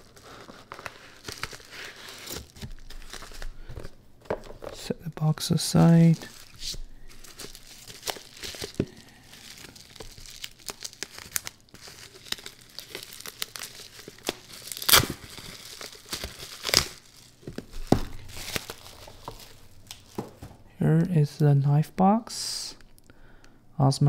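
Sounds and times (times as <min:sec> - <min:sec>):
bubble wrap crinkling: 0:00.0 - 0:21.1.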